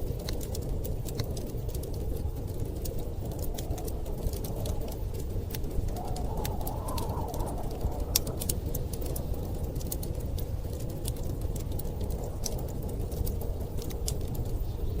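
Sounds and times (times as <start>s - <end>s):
low rumble of storm wind: 0.0s - 15.0s
wood fire crackling: 0.0s - 15.0s.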